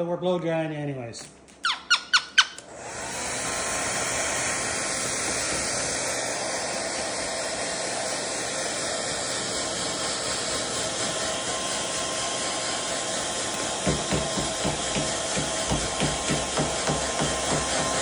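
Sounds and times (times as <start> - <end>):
hair dryer blowing: 2.6 - 18.0.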